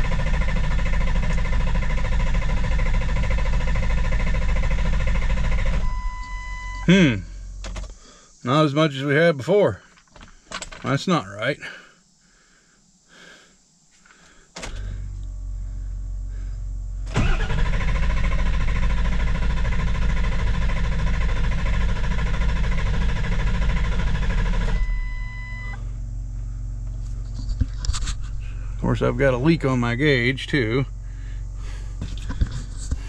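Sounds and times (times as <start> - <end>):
diesel engine cranking: 0.0 - 8.0, 14.5 - 33.0
steady low hum: 0.0 - 33.0.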